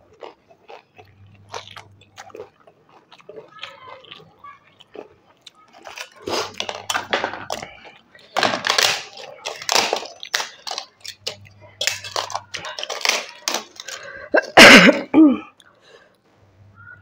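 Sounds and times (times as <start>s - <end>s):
crunchy food chewing: 0.0s - 14.6s.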